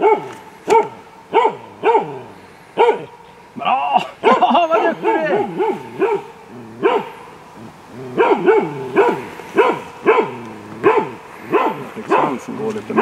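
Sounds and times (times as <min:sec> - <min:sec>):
hound barking: 0:00.0 - 0:03.4, 0:04.1 - 0:13.0.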